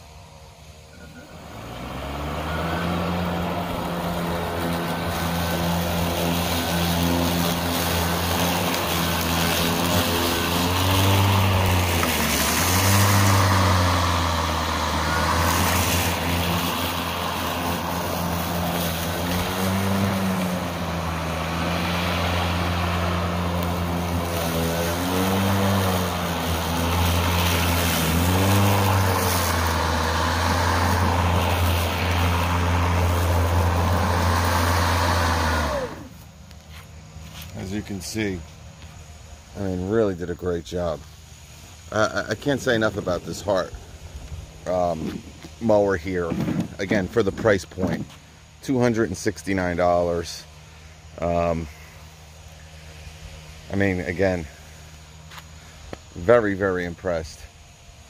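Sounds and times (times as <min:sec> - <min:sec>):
lawn mower cutting grass: 0:00.0 - 0:58.0.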